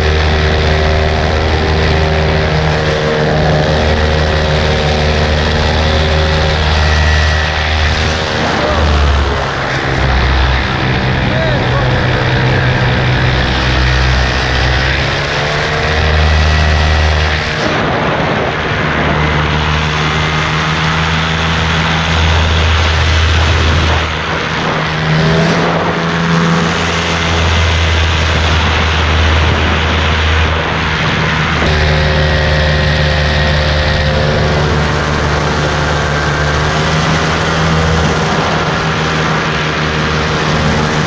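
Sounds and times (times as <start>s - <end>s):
paramotor engine and propeller: 0.0s - 41.0s.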